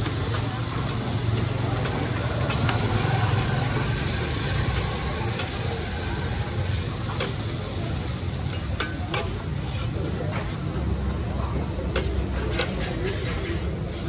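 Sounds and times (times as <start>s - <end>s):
kebabs sizzling on a griddle: 0.0s - 14.0s.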